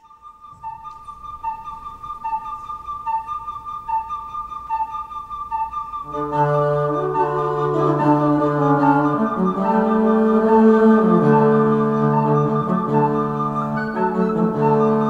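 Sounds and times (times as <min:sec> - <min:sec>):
flute playing a folk tune: 0:00.0 - 0:15.0.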